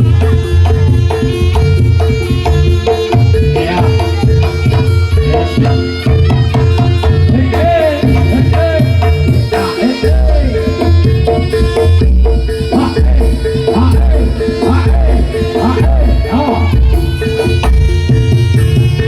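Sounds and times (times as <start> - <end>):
hand drums and percussion beat: 0.0 - 19.0
held drone tone: 0.0 - 19.0
sliding melody line: 0.0 - 19.0.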